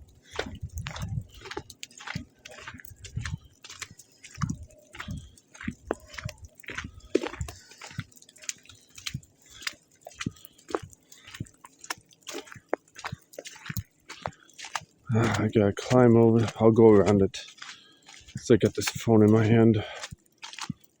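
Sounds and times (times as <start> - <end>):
footsteps crunching in snow: 0.2 - 21.0.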